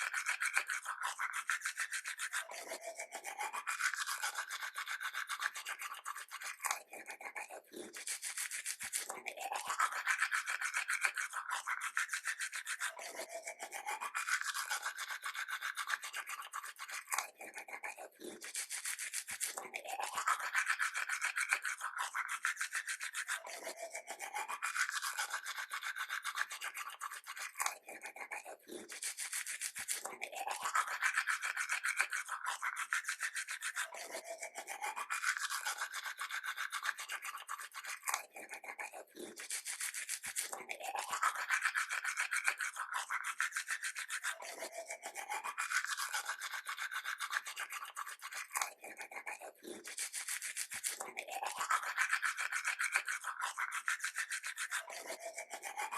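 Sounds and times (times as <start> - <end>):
toothbrush scrubbing teeth: 0.0 - 55.9.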